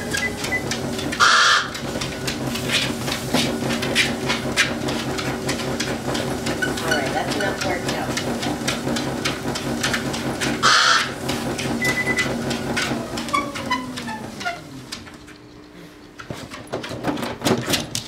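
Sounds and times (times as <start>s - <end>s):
treadmill motor hum: 0.0s - 18.0s.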